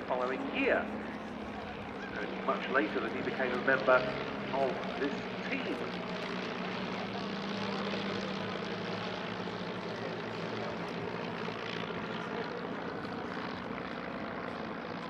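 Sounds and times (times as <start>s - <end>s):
propeller planes droning: 0.0s - 15.0s.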